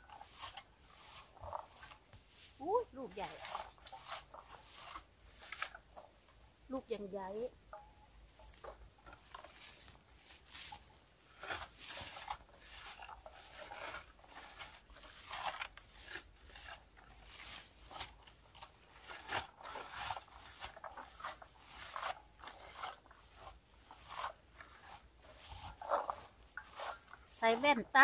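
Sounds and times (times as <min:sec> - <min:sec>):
berry picker scraping through leaves: 0:00.0 - 0:06.0, 0:08.3 - 0:28.0.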